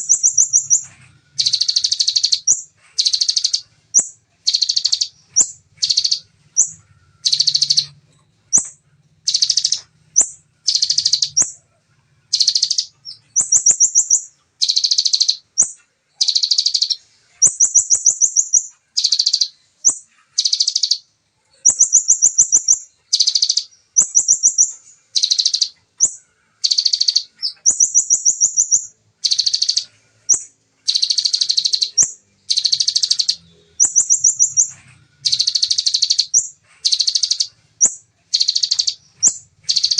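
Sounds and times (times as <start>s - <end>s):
bird singing buzzy rattles and trills: 0.0s - 39.9s.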